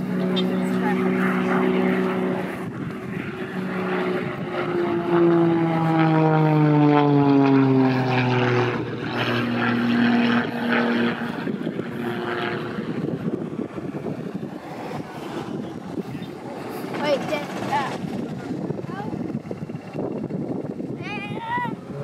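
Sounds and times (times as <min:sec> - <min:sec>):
propeller airplane flying past: 0:00.0 - 0:22.0.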